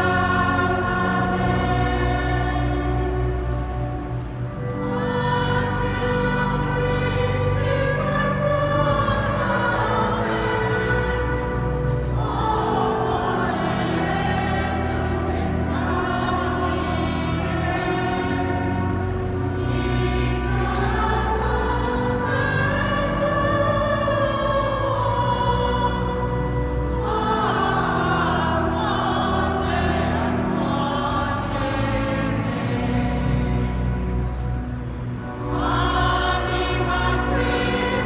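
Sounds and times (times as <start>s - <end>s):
choir singing sacred music: 0.0s - 38.0s.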